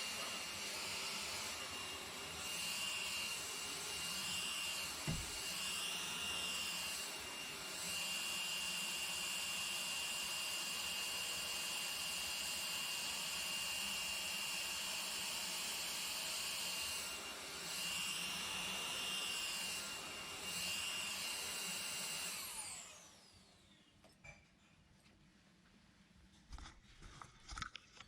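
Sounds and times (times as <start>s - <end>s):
vacuum motor winding down: 0.0s - 23.8s
stick vacuum cleaner whining: 0.0s - 23.9s.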